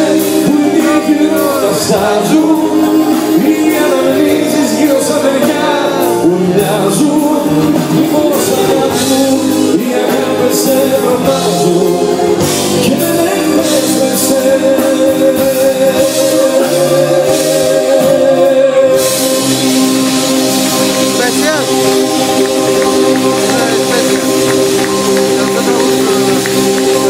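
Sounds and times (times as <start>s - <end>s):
person singing: 0.0s - 19.6s, 21.3s - 27.0s
live band playing: 0.0s - 27.0s.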